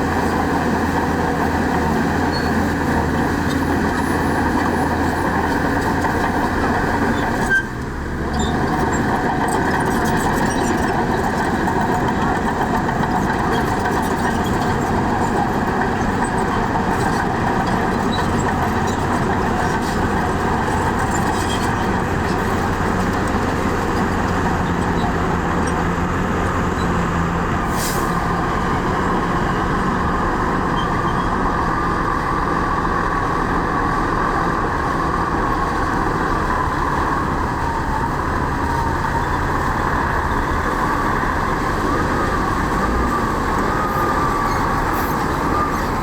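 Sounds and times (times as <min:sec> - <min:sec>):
diesel machinery running: 0:00.0 - 0:46.0.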